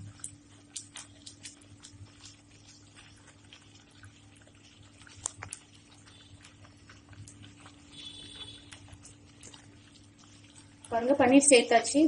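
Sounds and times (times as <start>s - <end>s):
gravy popping in pan: 0.0s - 11.5s
low steady hum: 0.0s - 12.0s.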